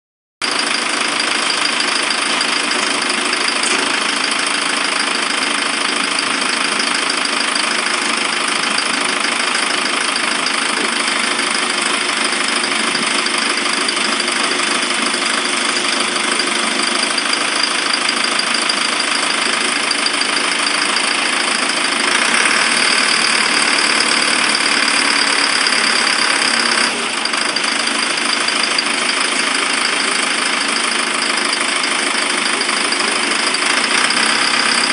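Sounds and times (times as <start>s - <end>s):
tractor diesel engine idling: 0.4s - 34.9s.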